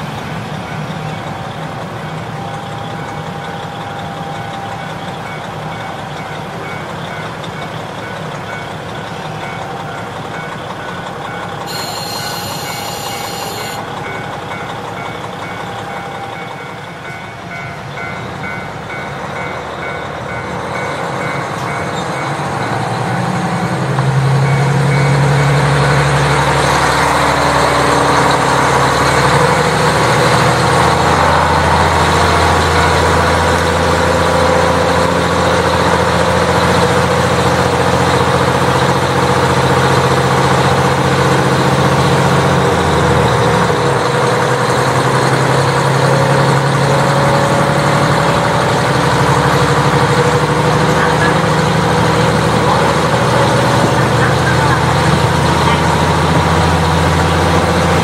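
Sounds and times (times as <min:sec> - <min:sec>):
diesel railcar engine humming: 0:00.0 - 0:58.0.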